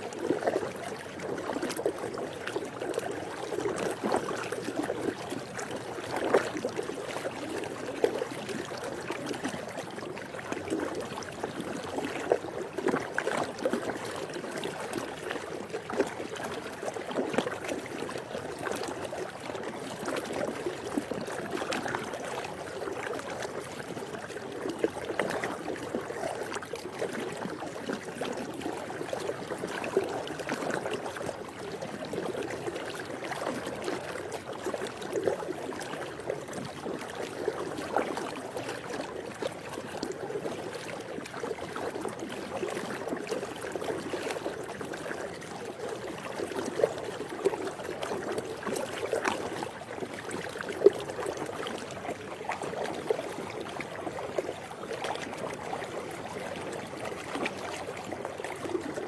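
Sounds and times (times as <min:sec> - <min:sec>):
pool water lapping and sloshing: 0:00.0 - 0:59.0
small water splashes: 0:00.0 - 0:59.0.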